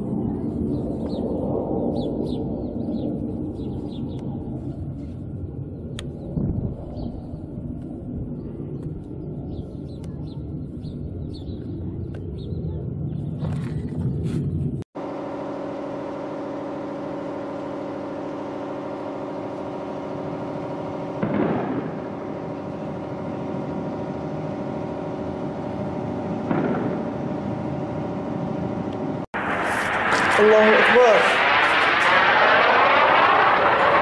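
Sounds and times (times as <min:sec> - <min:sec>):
muffled blasts: 0:00.0 - 0:34.0
warplane engine drone: 0:00.0 - 0:34.0.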